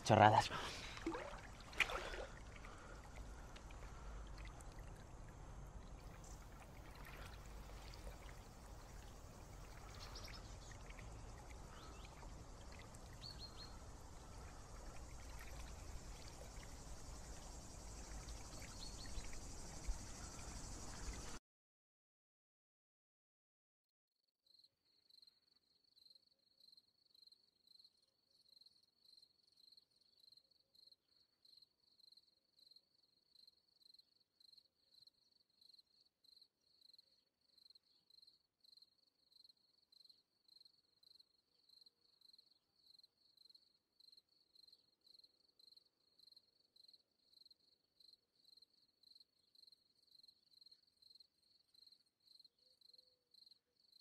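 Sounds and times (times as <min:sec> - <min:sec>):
cricket chirping: 0:00.0 - 0:21.4, 0:24.5 - 0:54.0.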